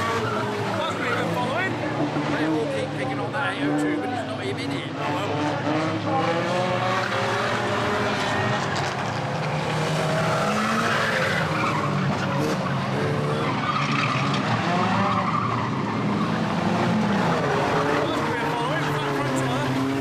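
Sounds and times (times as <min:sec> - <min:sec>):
racing car engines revving: 0:00.0 - 0:20.0
tyres skidding: 0:00.0 - 0:20.0.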